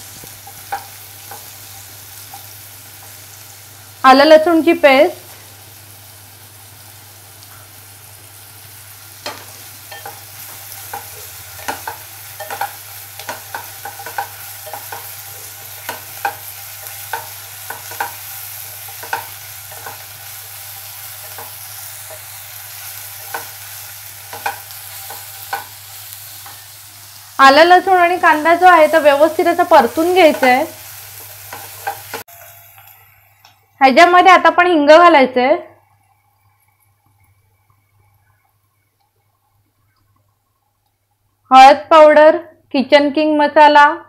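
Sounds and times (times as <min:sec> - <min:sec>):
onion sizzling in hot oil: 0:00.0 - 0:42.1.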